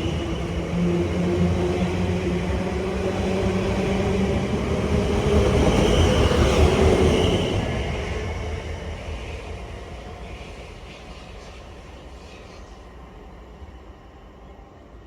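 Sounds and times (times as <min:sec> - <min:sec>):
passenger train passing: 0:00.0 - 0:15.0.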